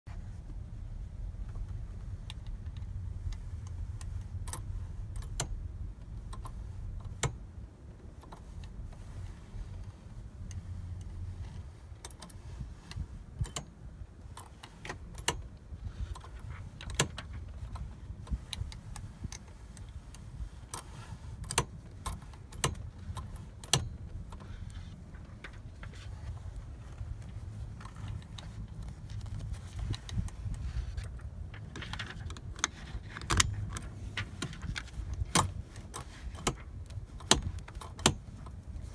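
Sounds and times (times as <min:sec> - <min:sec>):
seat belt clicks: 0:01.4 - 0:38.9.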